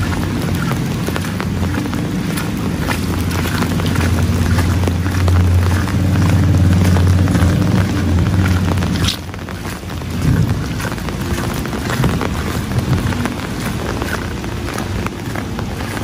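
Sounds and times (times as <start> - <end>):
low rumble: 0.0 - 16.0
rain drops ticking: 0.0 - 16.0.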